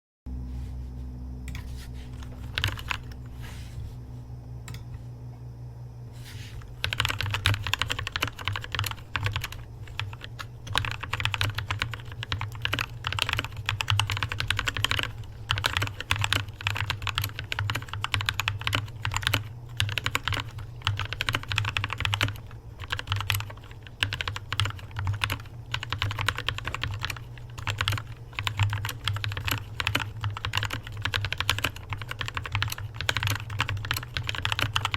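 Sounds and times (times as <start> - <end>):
mechanical keyboard typing: 2.2 - 3.2, 6.8 - 34.9.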